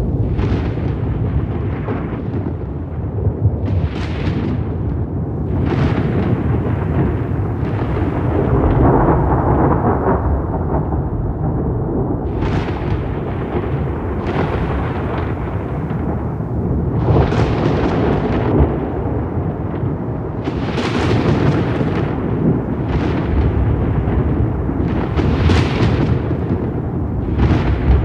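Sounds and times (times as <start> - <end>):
rolling thunder: 0.0 - 28.0.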